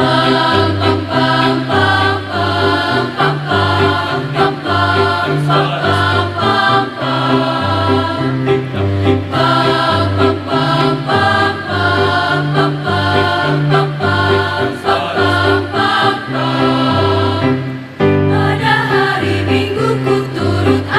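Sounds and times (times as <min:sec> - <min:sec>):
choir singing in harmony: 0:00.0 - 0:20.9.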